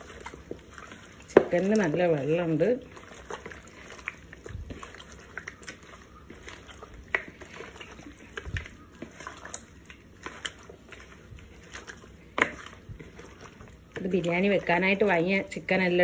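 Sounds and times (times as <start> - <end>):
hands mixing wet chicken: 0.0 - 16.0.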